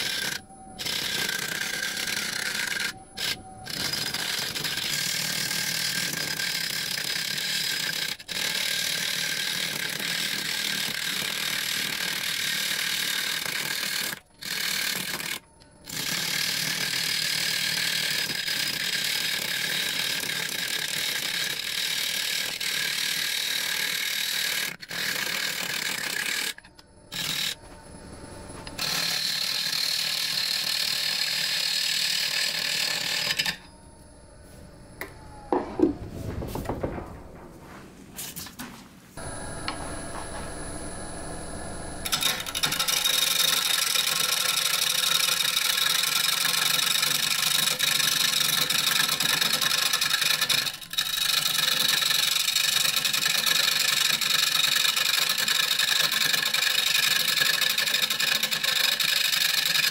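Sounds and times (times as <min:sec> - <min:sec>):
gouge scraping spinning wood: 0:00.0 - 0:27.6, 0:28.5 - 0:33.7, 0:42.0 - 0:59.9.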